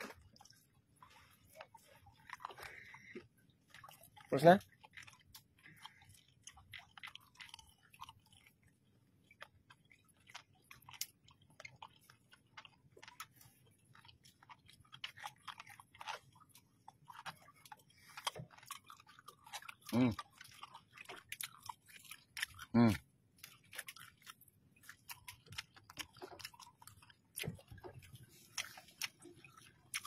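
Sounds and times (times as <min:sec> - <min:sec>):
person chewing wetly: 0:00.0 - 0:30.0.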